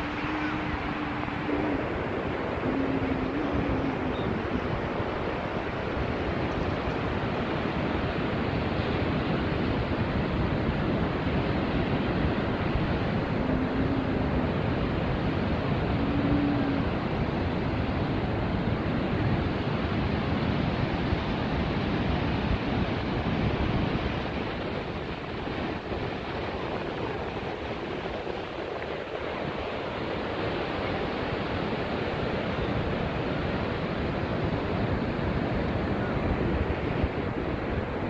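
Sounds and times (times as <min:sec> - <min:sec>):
ocean surf breaking on beach: 0:00.0 - 0:38.0
wind buffeting microphone: 0:00.0 - 0:38.0.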